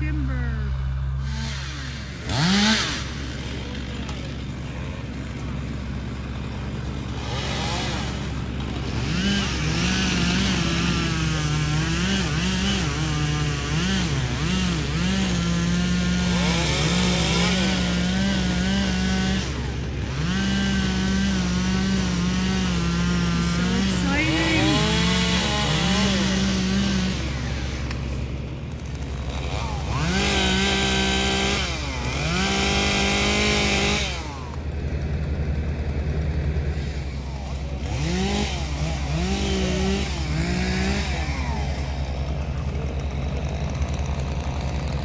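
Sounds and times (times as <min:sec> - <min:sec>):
chainsaw cutting tree: 0:00.0 - 0:45.0
low machine drone: 0:00.0 - 0:45.0.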